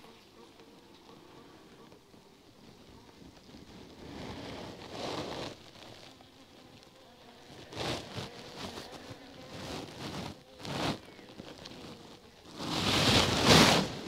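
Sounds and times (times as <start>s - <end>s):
faint hum of honeybees: 0.0s - 14.0s
fabric rustling near microphone: 2.6s - 14.0s.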